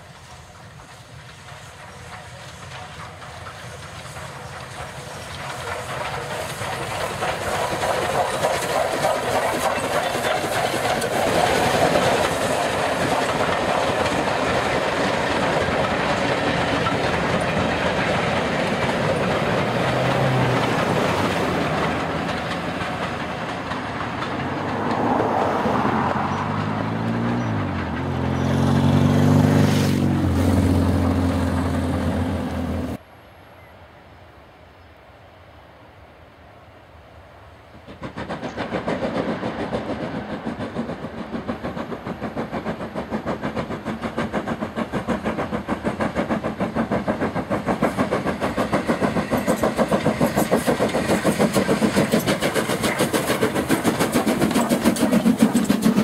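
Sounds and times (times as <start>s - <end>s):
train wheels clattering over rail joints: 0.0s - 29.4s, 37.8s - 56.0s.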